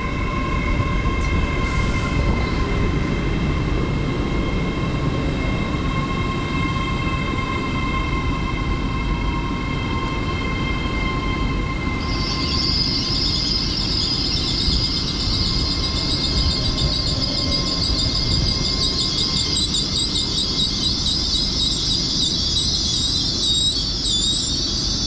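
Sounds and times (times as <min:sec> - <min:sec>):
low train rumble: 0:00.0 - 0:25.0
train wheels squealing: 0:00.0 - 0:25.0.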